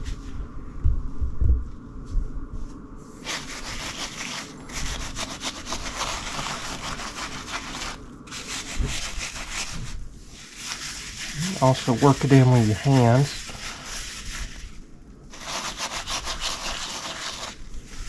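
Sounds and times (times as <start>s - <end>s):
brush scrubbing wet fabric: 3.2s - 18.0s.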